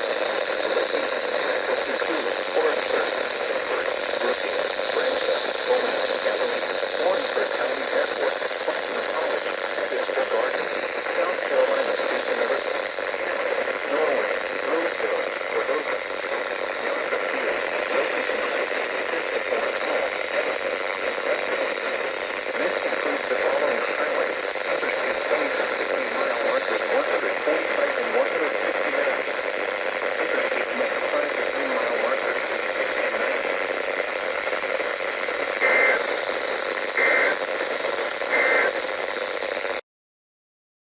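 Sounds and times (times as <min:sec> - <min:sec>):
radio static hiss: 0:00.0 - 0:39.8.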